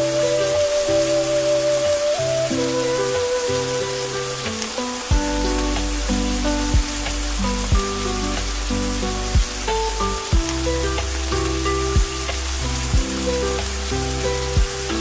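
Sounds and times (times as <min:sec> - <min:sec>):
rain hiss: 0:00.0 - 0:15.0
soft background music: 0:00.0 - 0:15.0.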